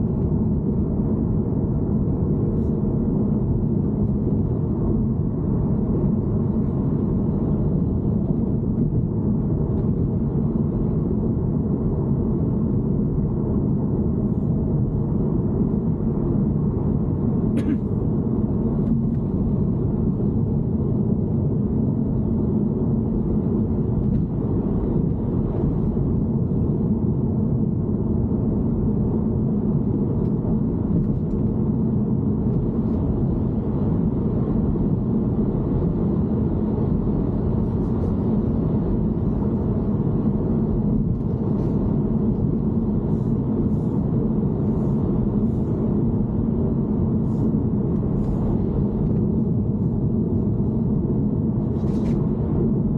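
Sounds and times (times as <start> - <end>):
car engine low rumble: 0.0 - 52.9.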